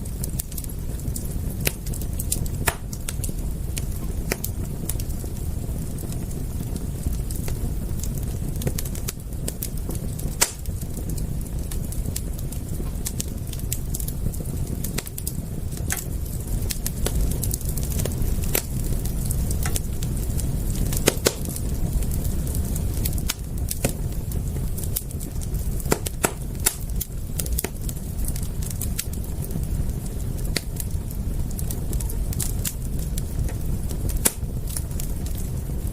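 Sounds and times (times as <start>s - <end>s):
steady low rumble: 0.0s - 35.9s
wood fire crackling and popping: 0.0s - 35.9s.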